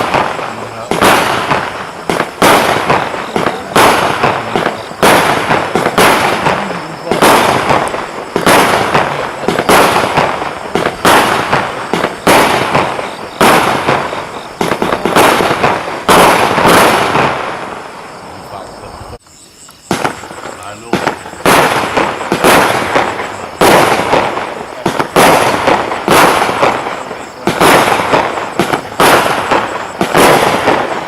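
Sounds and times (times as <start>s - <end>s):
fireworks battery firing bangs: 0.0s - 18.7s, 19.8s - 31.0s.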